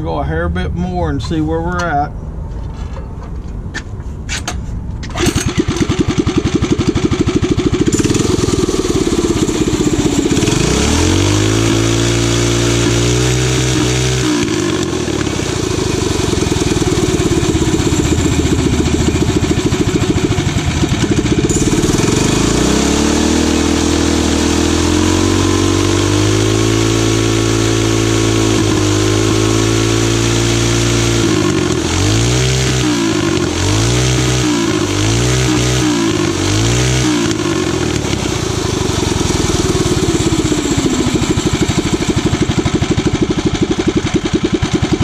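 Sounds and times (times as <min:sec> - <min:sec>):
small engine running: 0:05.1 - 0:45.0.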